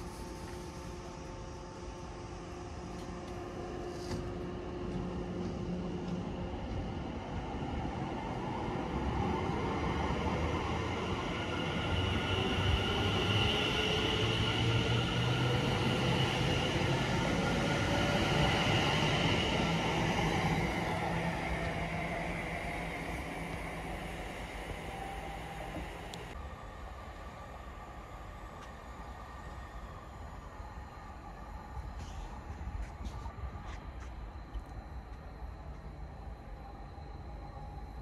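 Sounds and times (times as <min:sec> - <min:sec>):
train rumbling: 0:00.0 - 0:38.0.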